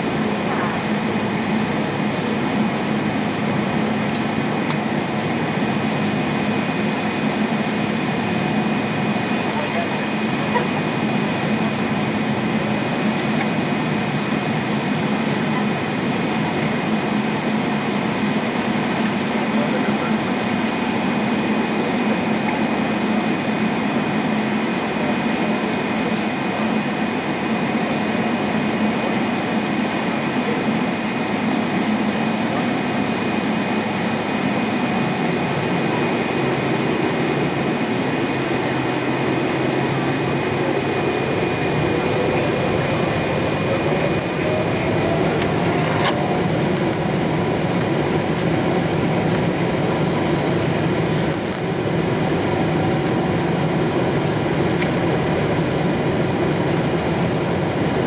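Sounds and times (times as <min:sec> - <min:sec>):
high engine whine: 0:00.0 - 0:58.0.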